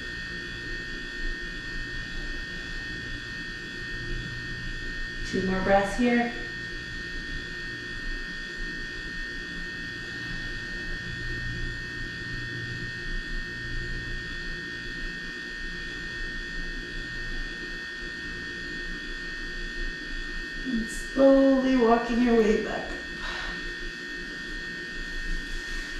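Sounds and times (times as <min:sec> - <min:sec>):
electrical hum and buzz: 0:00.0 - 0:25.9.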